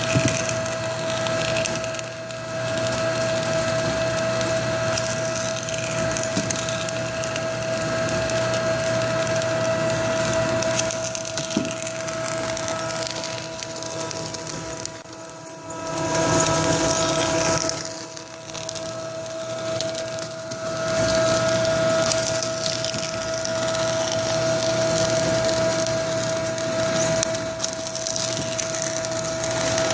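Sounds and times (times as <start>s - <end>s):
machine humming and whining: 0.0s - 29.9s
snack crackling: 0.0s - 29.9s.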